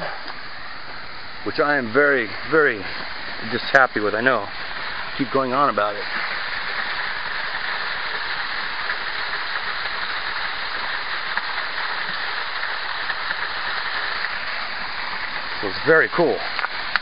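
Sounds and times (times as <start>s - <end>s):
small waterfall splashing into pool: 1.7s - 17.0s.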